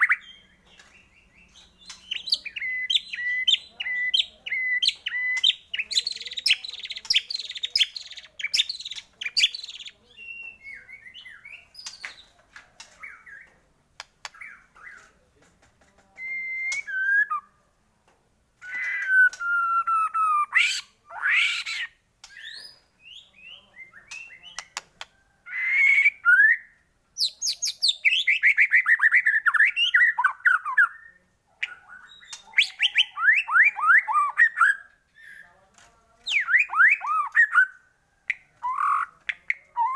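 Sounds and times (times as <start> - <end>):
songbird whistling and trilling: 0.0 - 12.3, 16.2 - 17.5, 18.6 - 24.8, 25.5 - 35.4, 36.3 - 37.8, 38.6 - 39.9.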